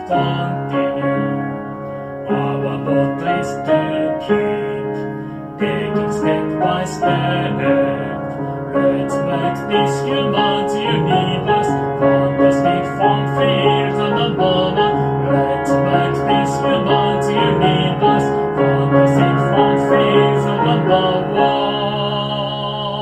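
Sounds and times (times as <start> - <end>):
piano background music: 0.0 - 23.0.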